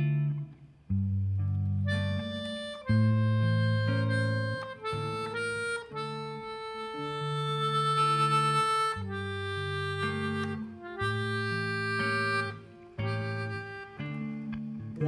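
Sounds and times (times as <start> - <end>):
electric guitar: 0.0 - 15.0
melodica chords: 1.8 - 15.0
saxophone: 1.8 - 15.0.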